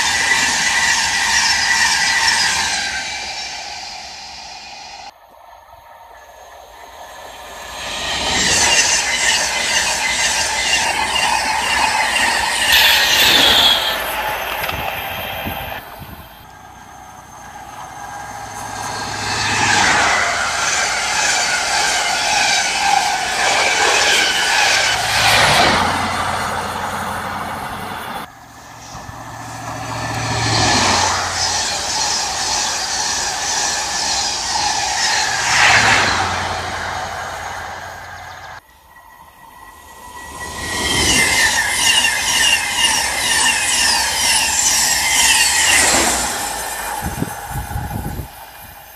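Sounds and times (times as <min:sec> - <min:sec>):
trains passing at speed: 0:00.0 - 0:48.9
diesel power car approaching: 0:05.8 - 0:48.5.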